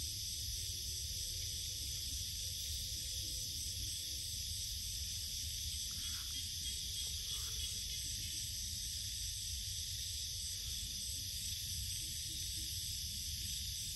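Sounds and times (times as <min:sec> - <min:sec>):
night insects trilling: 0:00.0 - 0:13.9.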